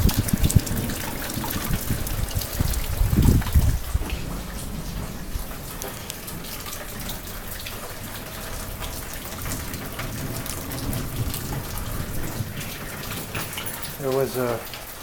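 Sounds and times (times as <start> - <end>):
rain drops on hard surfaces: 0.0 - 15.0.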